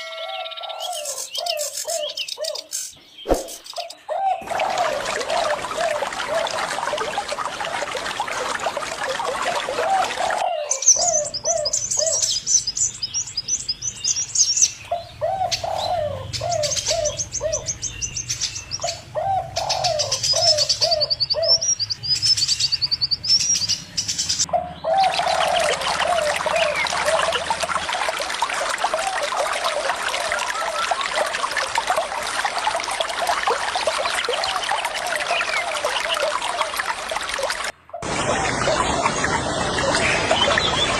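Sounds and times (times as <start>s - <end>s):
small birds chirping and trilling: 0.0s - 7.3s, 9.0s - 27.7s, 34.0s - 40.9s
running water: 3.2s - 21.3s, 23.6s - 40.9s.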